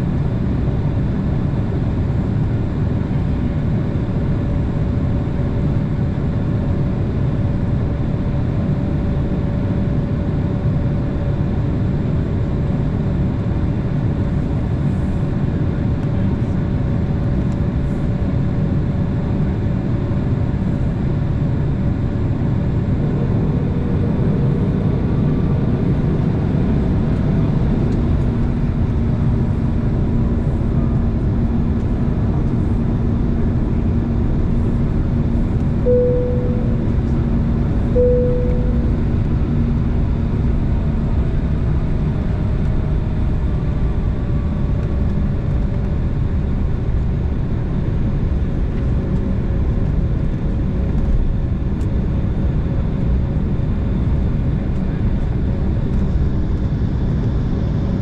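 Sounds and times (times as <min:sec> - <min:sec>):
jet engines rumbling with whine: 0:00.0 - 0:58.0.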